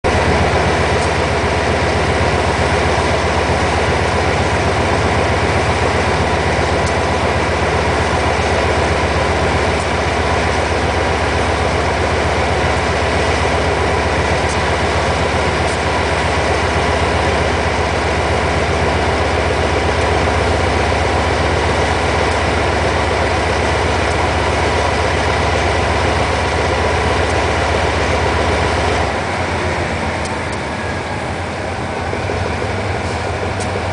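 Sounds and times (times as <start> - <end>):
diesel locomotive engine throbbing: 0.0 - 33.9.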